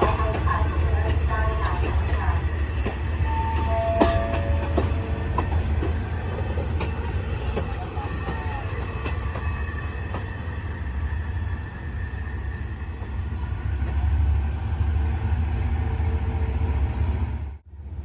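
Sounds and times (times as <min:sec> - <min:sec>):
train engine rumble: 0:00.0 - 0:18.0.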